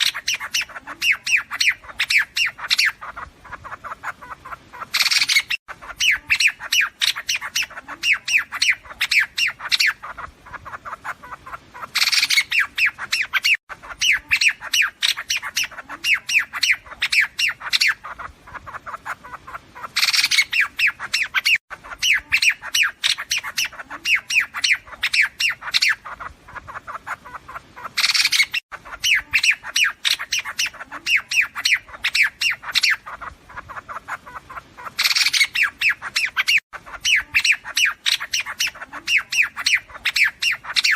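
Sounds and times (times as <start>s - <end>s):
bird chattering: 0.0s - 40.9s
bird squawk: 0.0s - 40.9s.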